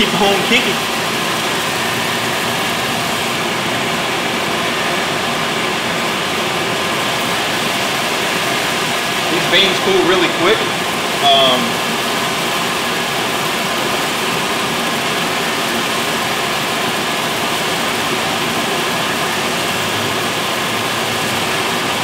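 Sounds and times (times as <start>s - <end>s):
coffee roaster motor whirring: 0.0s - 22.0s.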